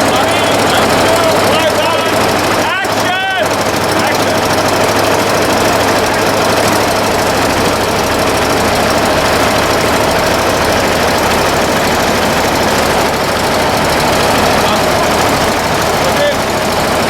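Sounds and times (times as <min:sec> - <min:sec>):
droning machine noise: 0:00.0 - 0:17.0.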